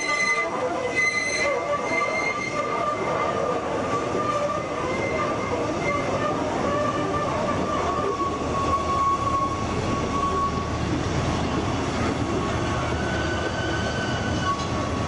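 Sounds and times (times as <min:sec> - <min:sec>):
wheels squealing: 0:00.0 - 0:10.8, 0:12.7 - 0:15.0
train wheels rumbling on rails: 0:00.0 - 0:15.0.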